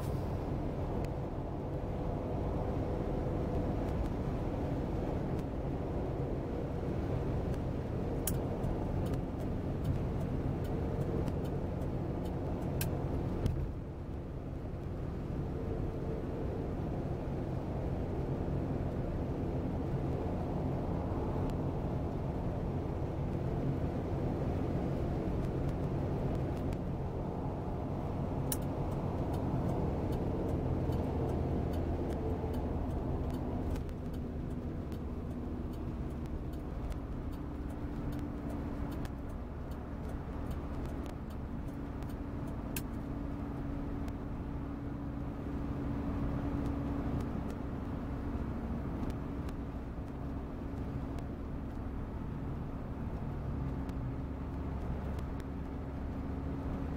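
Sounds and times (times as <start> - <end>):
car engine rumble: 0.0 - 56.9
road noise: 0.0 - 56.9.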